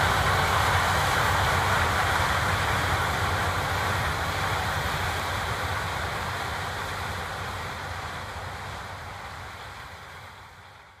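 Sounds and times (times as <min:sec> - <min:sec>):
combine harvester machinery: 0:00.0 - 0:09.5.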